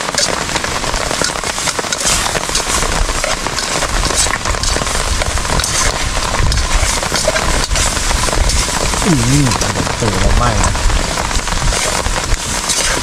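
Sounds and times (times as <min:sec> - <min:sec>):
heavy rain pattering on a tarp: 0:00.0 - 0:13.0.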